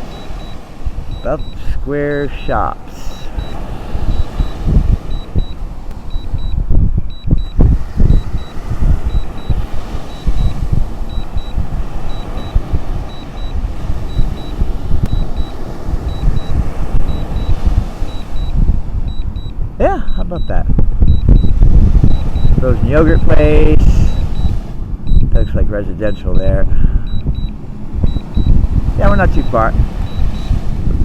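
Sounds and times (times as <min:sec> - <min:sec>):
wind buffeting microphone: 0:00.0 - 0:31.0
remote controller short high beeps: 0:00.1 - 0:10.5, 0:11.1 - 0:16.5, 0:17.1 - 0:21.5, 0:22.1 - 0:24.5, 0:25.1 - 0:27.5, 0:28.1 - 0:30.6.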